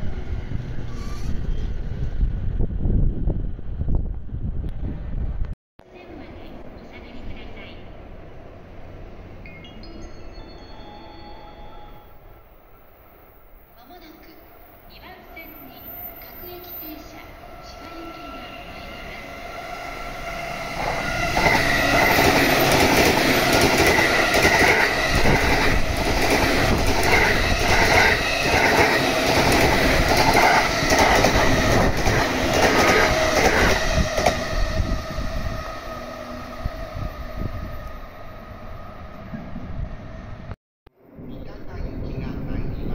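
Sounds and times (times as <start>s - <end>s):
electric train passing: 0.0s - 4.6s, 5.9s - 42.9s.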